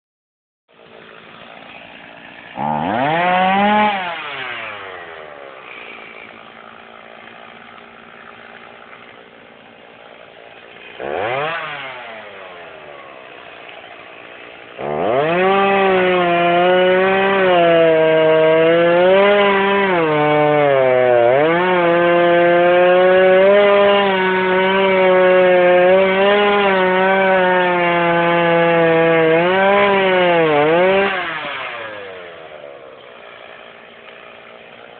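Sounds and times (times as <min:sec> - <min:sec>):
chainsaw idling and revving: 0:00.7 - 0:34.9
chainsaw cutting into log: 0:00.8 - 0:34.9.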